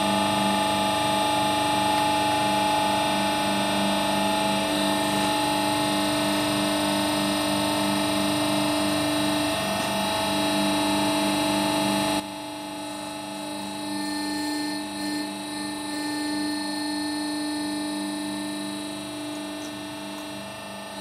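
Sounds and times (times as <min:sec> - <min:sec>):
hydraulic pump hum and whine: 0:00.0 - 0:21.0.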